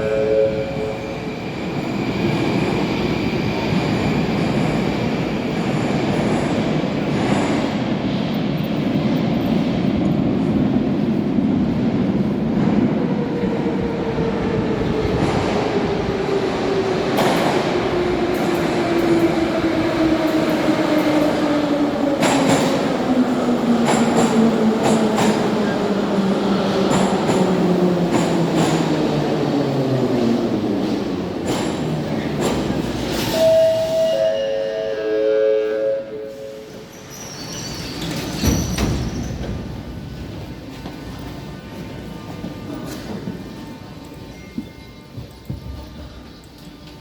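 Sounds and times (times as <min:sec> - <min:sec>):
metro train rumbling: 0:00.0 - 0:47.0.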